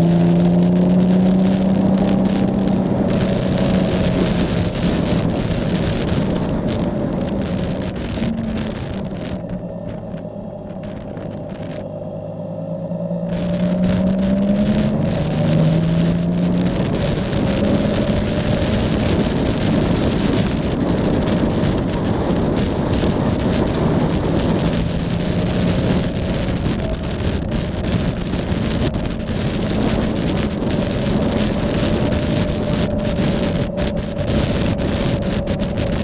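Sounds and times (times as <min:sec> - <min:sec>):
motorcycle engine running: 0:00.0 - 0:36.0
wind rush on microphone: 0:00.0 - 0:36.0.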